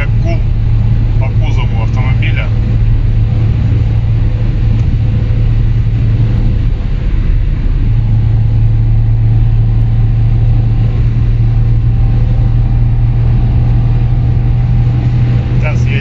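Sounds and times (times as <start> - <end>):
low car exhaust drone: 0.0 - 16.0.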